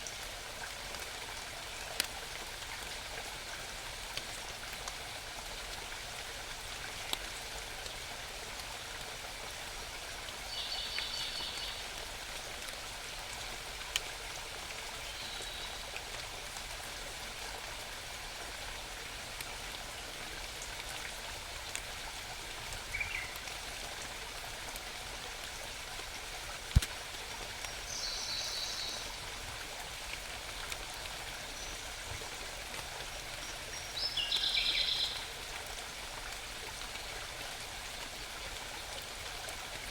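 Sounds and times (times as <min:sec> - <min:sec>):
hiss of forest water: 0:00.0 - 0:39.9.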